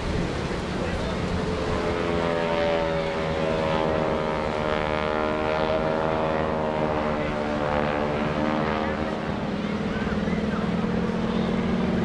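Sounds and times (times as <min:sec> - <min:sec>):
propeller plane droning past: 0:00.0 - 0:12.0.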